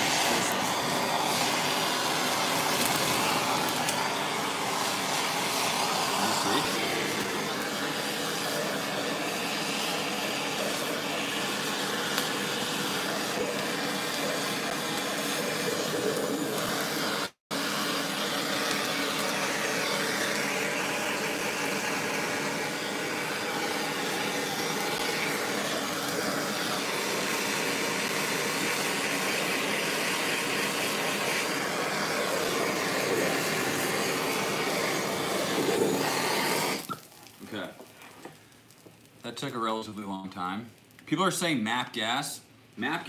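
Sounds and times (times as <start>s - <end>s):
gas torch hissing: 0.0s - 40.5s.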